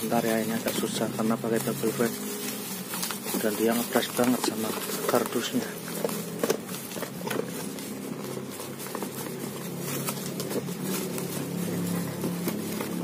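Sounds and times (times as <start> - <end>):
bubble wrap crinkling: 0.0 - 13.0
cardboard scraping: 0.0 - 13.0.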